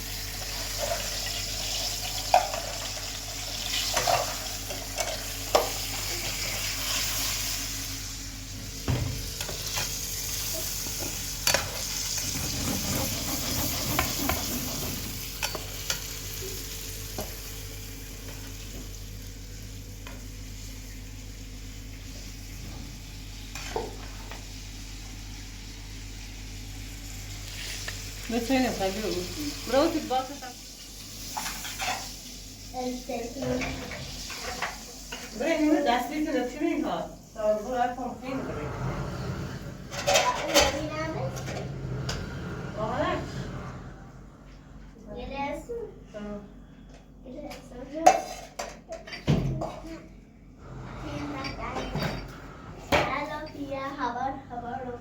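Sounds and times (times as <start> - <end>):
steady sizzling hiss: 0.0 - 48.6.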